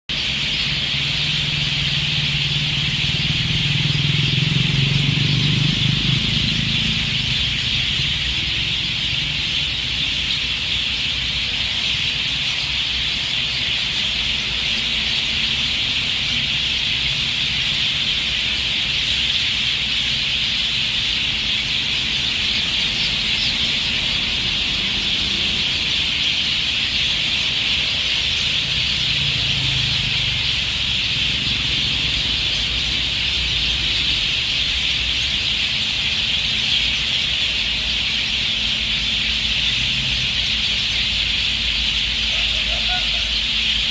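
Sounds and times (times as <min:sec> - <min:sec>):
flock of birds chirping: 0:00.1 - 0:43.9.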